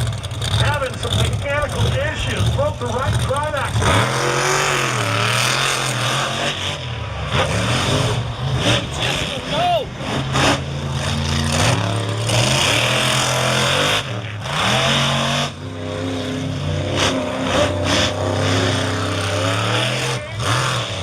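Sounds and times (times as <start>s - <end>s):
truck engines revving hard: 0.0s - 21.0s.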